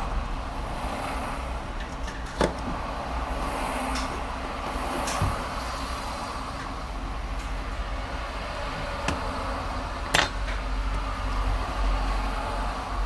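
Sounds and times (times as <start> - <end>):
motorway traffic rumble: 0.0 - 13.0.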